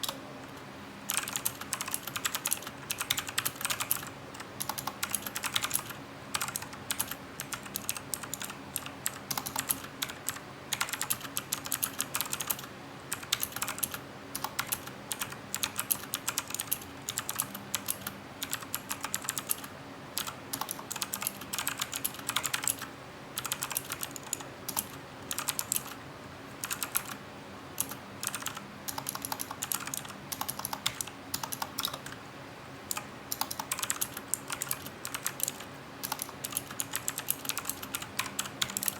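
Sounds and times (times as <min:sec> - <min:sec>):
mechanical keyboard typing: 0:00.0 - 0:26.0, 0:26.6 - 0:27.2, 0:27.8 - 0:32.2, 0:32.9 - 0:38.9.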